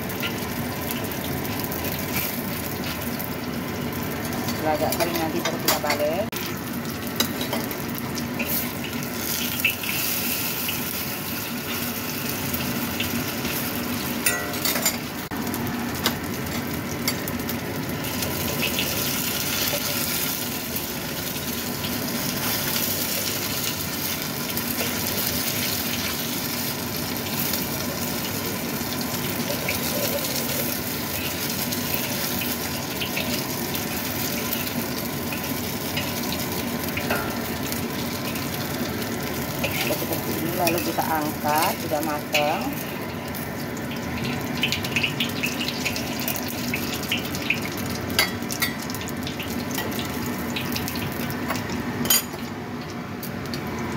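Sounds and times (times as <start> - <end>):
oil sizzling and crackling in wok: 0.0 - 53.9.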